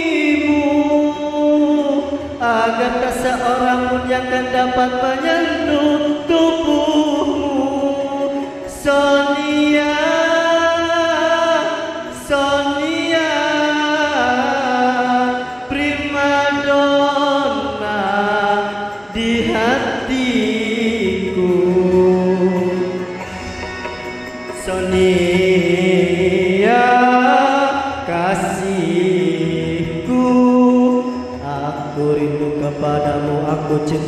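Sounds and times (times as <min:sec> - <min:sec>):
man singing through microphone: 0:00.0 - 0:34.0.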